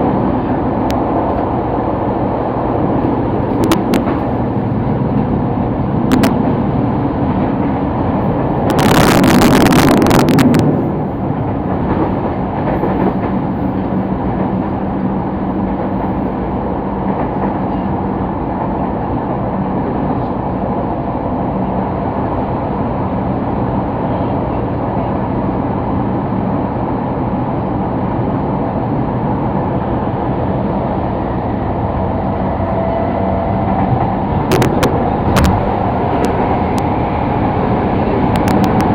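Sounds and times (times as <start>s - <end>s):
train wheels and motors rumbling: 0.0s - 38.9s.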